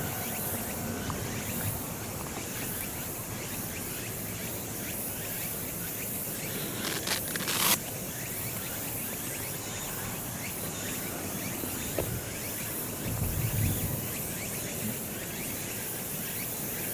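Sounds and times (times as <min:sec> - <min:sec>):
background hiss: 0:00.0 - 0:16.9
insects chirping: 0:00.0 - 0:16.9.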